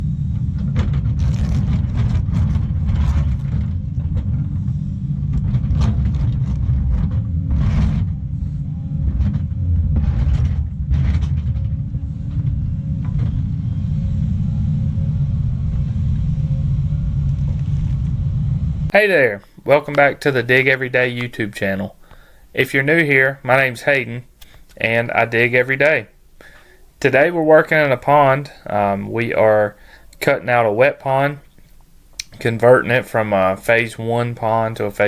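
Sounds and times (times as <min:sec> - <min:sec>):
diesel engine rumble: 0:00.0 - 0:31.2.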